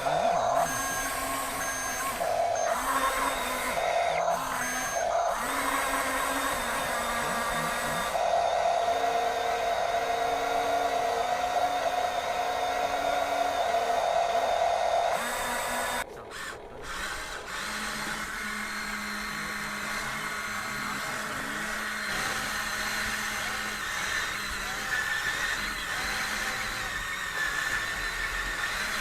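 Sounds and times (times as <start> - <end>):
toy electric motors whining: 0.0 - 29.0.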